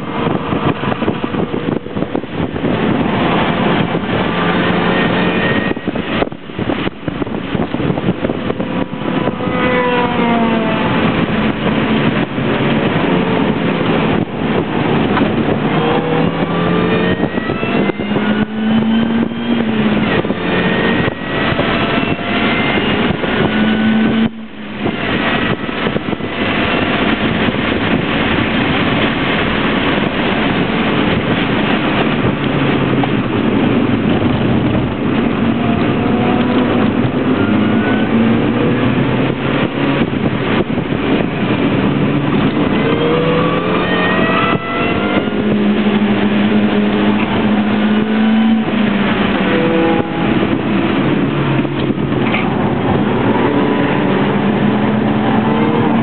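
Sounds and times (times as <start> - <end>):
car engine driven hard: 0.0 - 56.0
wind and road noise: 0.0 - 56.0.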